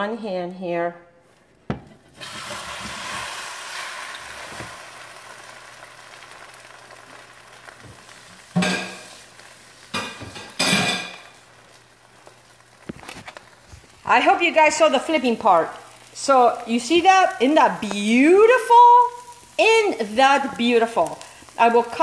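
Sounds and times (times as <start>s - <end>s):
food sizzling in frying pan: 1.8s - 22.0s.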